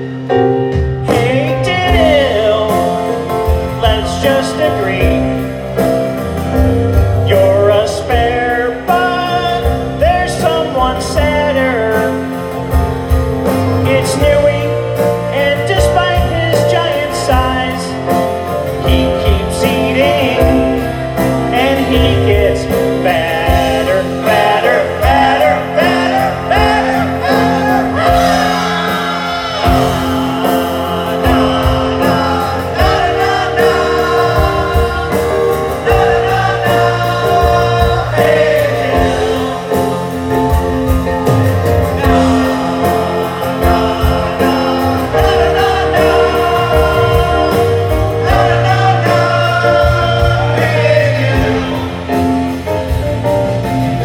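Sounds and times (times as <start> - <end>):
electric guitars: 0.0 - 54.0
man singing into a microphone: 1.0 - 5.6, 7.1 - 12.6, 13.5 - 40.2, 41.9 - 52.2.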